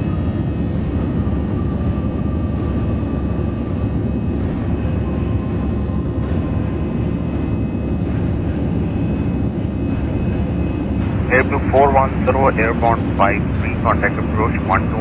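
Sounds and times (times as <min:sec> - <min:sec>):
airplane cabin engine rumble: 0:00.0 - 0:15.0
faint steady whine: 0:00.0 - 0:15.0.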